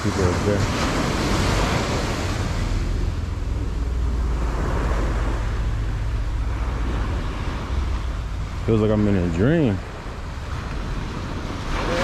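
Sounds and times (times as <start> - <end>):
small waves breaking on beach: 0.0 - 12.0
wind rumble on microphone: 0.0 - 12.0.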